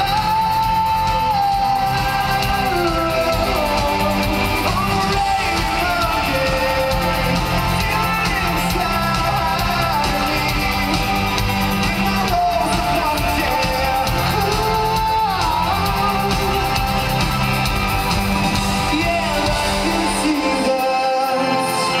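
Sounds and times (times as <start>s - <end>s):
live rock band playing: 0.0s - 22.0s
person singing: 0.0s - 22.0s.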